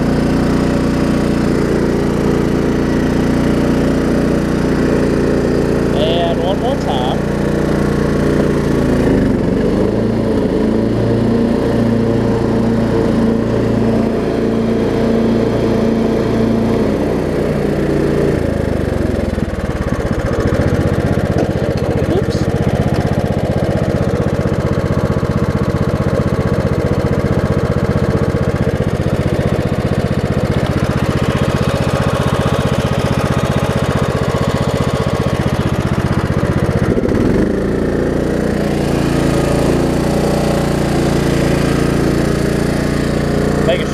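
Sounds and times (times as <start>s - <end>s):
riding mower engine running: 0.0s - 43.9s.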